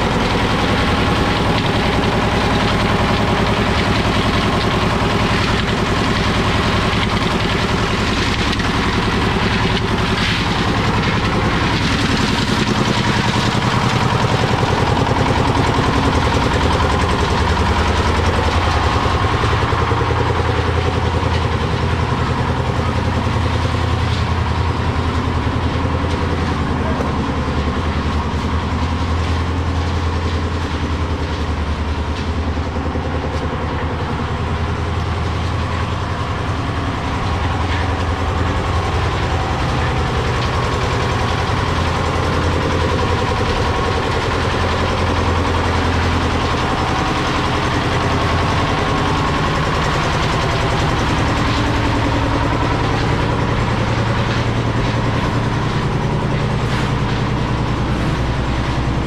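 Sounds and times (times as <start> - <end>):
aggregate tumbling in mixer drum: 0.0 - 59.0
concrete mixer engine running: 0.0 - 59.0.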